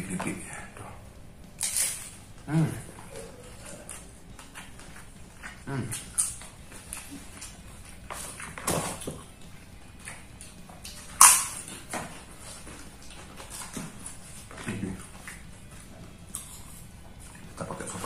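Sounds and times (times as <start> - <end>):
people chewing and crunching food: 0.0 - 18.0.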